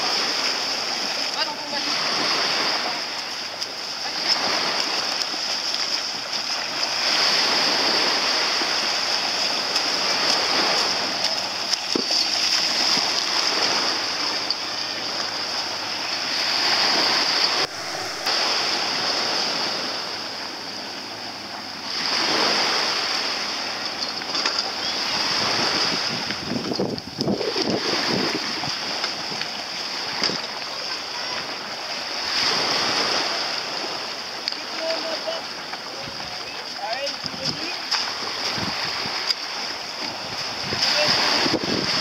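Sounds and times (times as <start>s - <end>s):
seawater sloshing and splashing: 0.0s - 42.0s.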